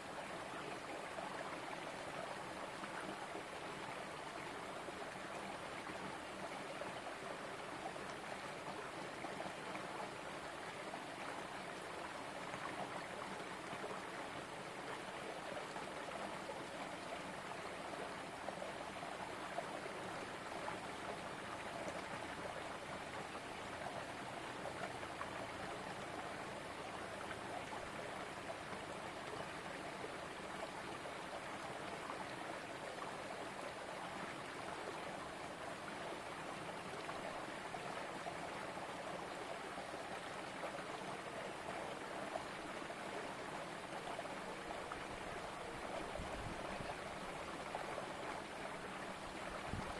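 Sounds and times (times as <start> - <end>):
stream flowing over stones: 0.0 - 49.9.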